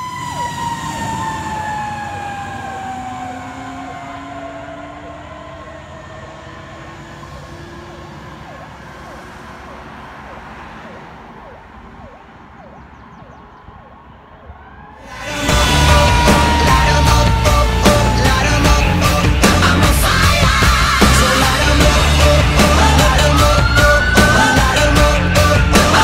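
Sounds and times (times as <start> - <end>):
fire truck siren: 0.0 - 26.0.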